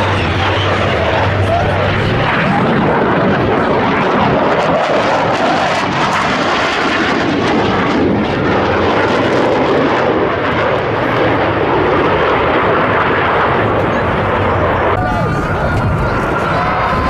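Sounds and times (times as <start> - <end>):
fighter jets roaring in flight: 0.0 - 17.0.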